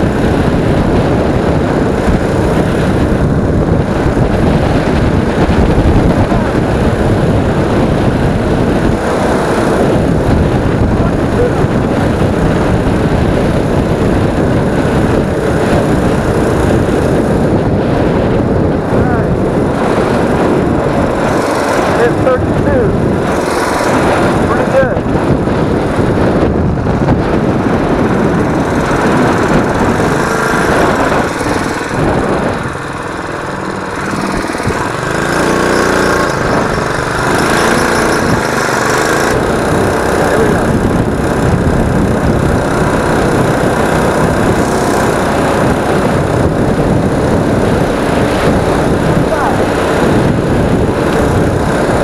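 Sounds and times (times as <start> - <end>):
small engine running under load: 0.0 - 52.0
wind noise on microphone: 0.0 - 52.0.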